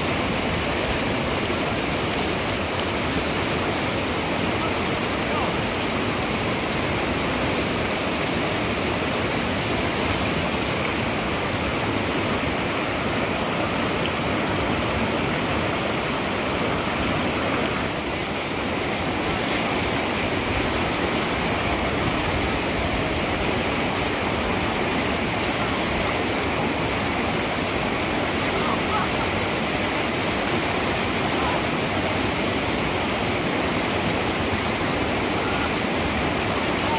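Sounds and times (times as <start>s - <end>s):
river rapids roaring: 0.0s - 36.9s.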